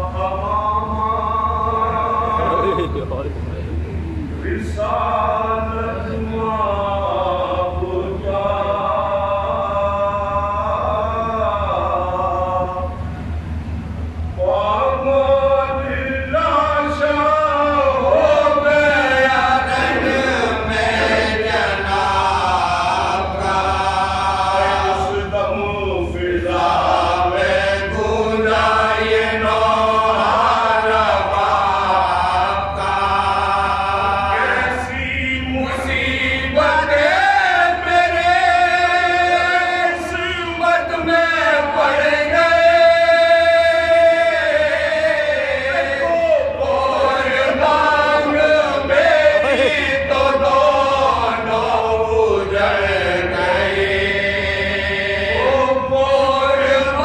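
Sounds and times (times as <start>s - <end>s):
men chanting unaccompanied: 0.0s - 3.2s, 4.4s - 13.0s, 14.4s - 57.0s.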